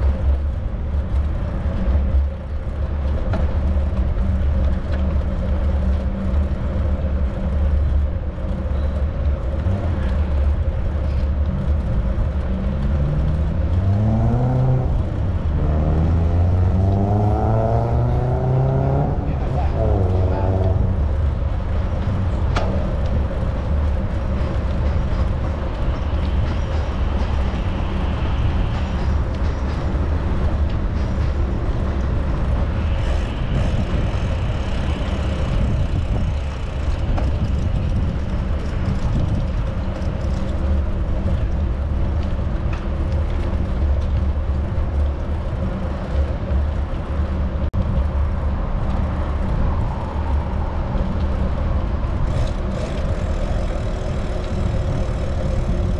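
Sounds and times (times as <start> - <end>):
street traffic rumble: 0.0 - 55.9.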